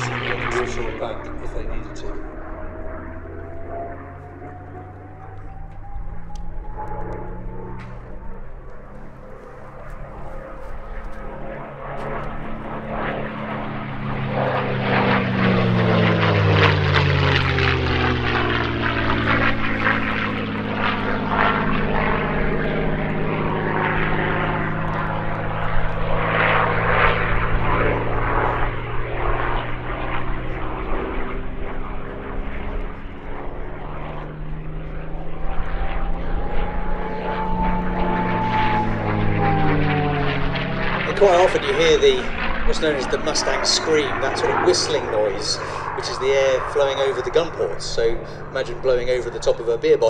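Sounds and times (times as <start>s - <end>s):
propeller aircraft engine passing: 0.0s - 50.0s
whistling tone of aircraft: 0.0s - 50.0s.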